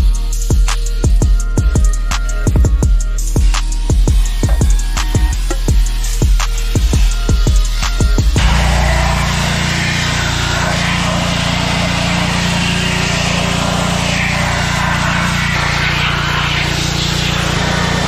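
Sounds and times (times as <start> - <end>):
machine humming and hissing: 0.0 - 18.0.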